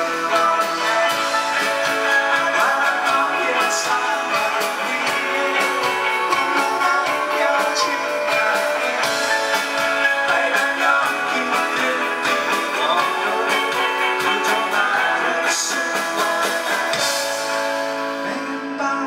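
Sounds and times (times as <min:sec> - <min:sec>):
electric guitars: 0:00.0 - 0:19.0
rock band playing live: 0:00.0 - 0:19.0.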